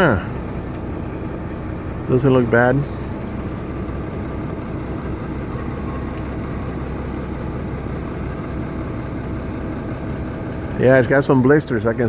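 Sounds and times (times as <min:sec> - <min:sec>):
crane engine droning: 0:00.0 - 0:12.0.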